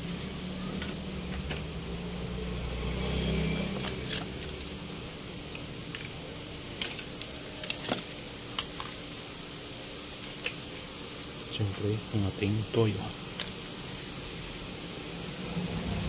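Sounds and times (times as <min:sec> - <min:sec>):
meat sizzling in a wok: 0:00.0 - 0:16.0.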